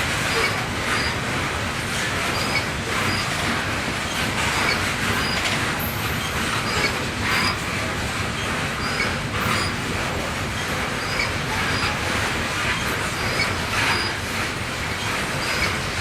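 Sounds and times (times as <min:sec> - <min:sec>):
railroad cars rolling: 0:00.0 - 0:16.0.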